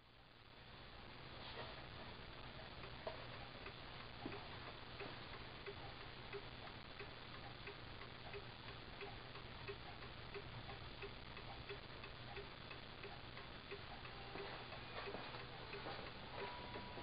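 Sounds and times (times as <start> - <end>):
clock ticking: 2.4 - 17.0.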